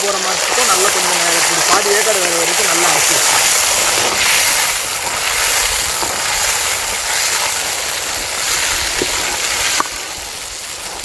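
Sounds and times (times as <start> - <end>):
berries sizzling in hot oil: 0.0 - 11.0.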